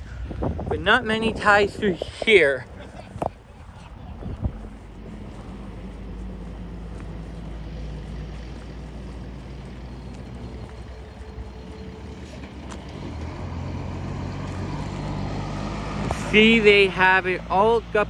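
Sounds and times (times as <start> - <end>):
road noise: 0.0 - 18.0
vehicle engine running: 2.6 - 18.0.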